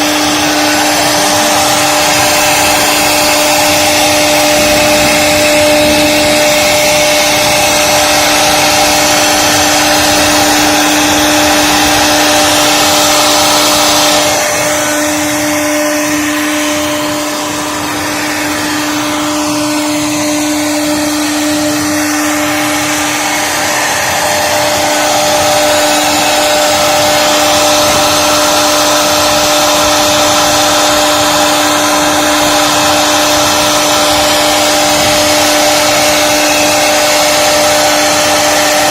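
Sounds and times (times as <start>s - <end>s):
hissing cutting noise: 0.0s - 38.9s
router spindle whining: 0.0s - 38.9s.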